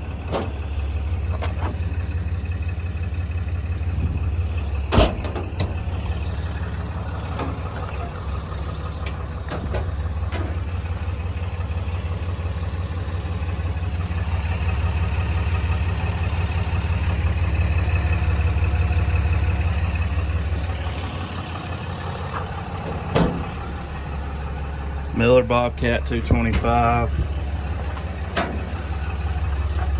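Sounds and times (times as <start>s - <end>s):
large engine idling: 0.0s - 29.9s.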